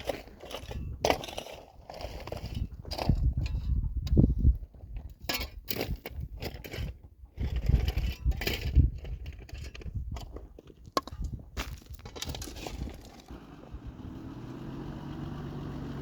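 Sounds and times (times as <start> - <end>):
stones and soil crunching: 0.0 - 13.4.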